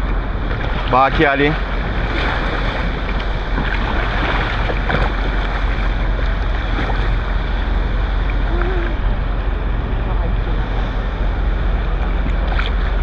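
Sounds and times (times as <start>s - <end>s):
sea water washing around kayak: 0.0s - 13.0s
wind buffeting microphone: 0.0s - 13.0s.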